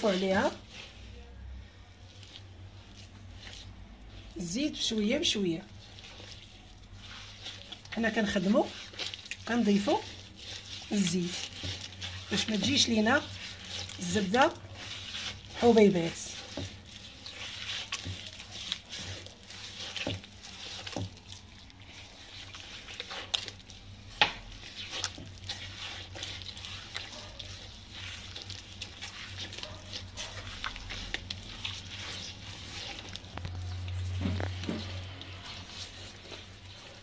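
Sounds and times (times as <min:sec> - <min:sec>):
hand squishing butter in dish: 0:00.0 - 0:37.0.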